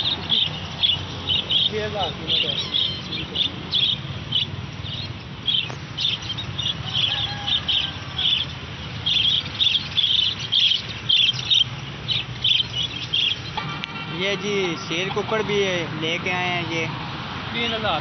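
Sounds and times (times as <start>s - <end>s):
caged birds chirping: 0.0s - 18.0s.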